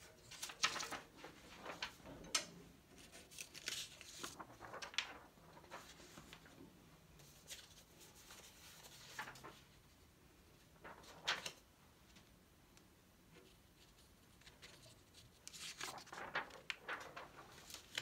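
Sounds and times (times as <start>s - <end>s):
paper rustling and crinkling: 0.0s - 6.6s, 7.2s - 9.9s, 10.6s - 11.7s, 13.3s - 18.0s.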